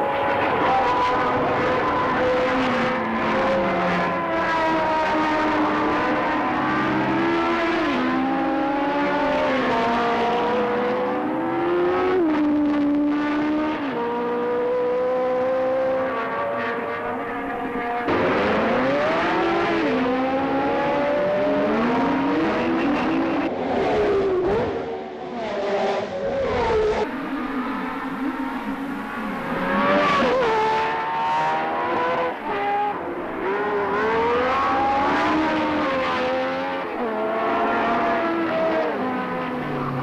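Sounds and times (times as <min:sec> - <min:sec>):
car accelerating hard: 0:00.2 - 0:27.1, 0:28.1 - 0:40.0.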